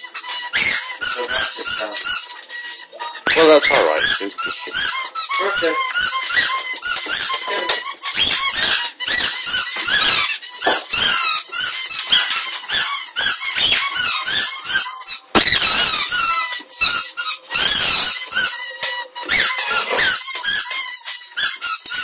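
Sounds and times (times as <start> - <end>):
squeaky toys squeaking: 0.0 - 22.0.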